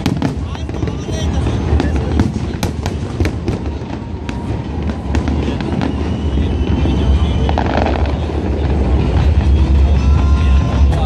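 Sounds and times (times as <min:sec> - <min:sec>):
sharp firework cracks: 0:00.0 - 0:11.0.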